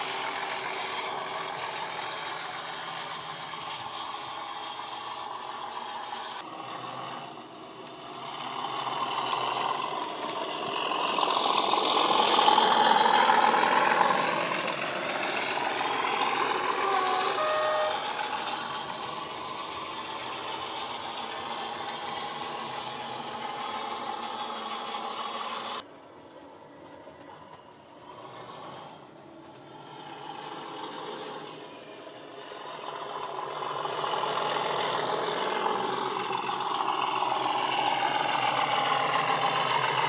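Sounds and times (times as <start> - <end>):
diesel engine from small speaker: 0.0 - 25.9, 27.0 - 40.0
model train running on track: 0.0 - 40.0.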